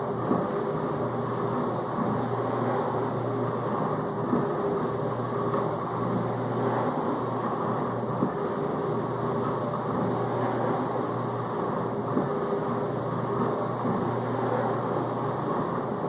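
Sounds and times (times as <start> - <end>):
dishwasher pump humming: 0.0 - 16.0.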